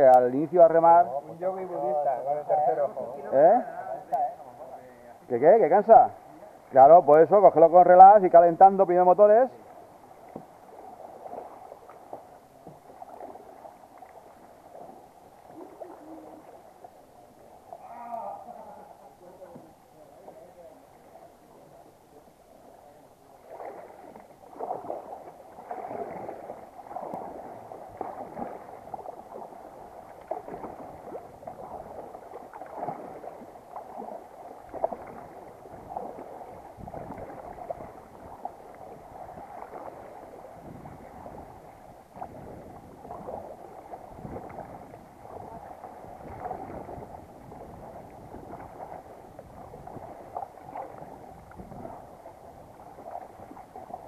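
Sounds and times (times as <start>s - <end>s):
paddle splashing in water: 0.0s - 54.0s
water gurgling along hull: 0.0s - 54.0s.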